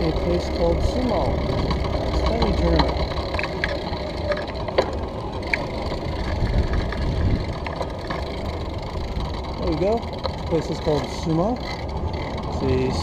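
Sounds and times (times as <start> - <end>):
bicycle riding over brick paving: 0.0 - 13.0
small rattles and clicks: 0.0 - 13.0.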